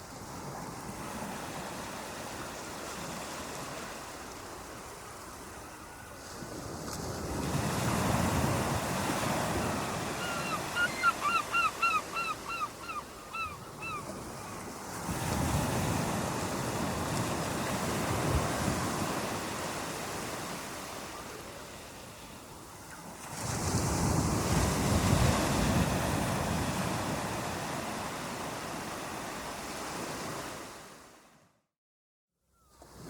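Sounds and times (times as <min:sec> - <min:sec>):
ocean waves breaking on beach: 0:00.0 - 0:31.5.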